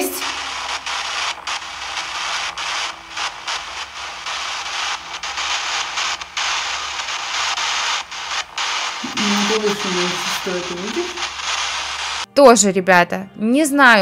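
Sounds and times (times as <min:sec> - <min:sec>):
hissing static: 0:00.0 - 0:12.3.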